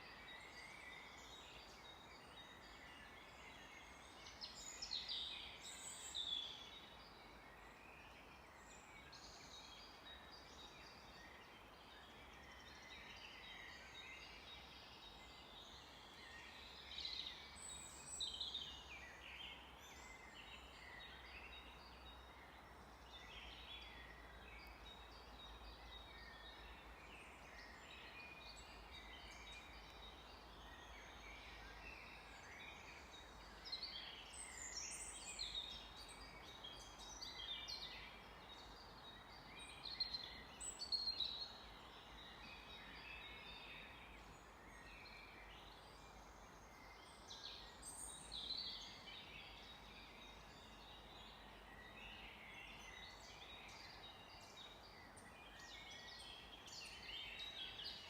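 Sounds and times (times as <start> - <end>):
forest birds singing: 0.0 - 58.0
steady background hiss: 0.1 - 58.0.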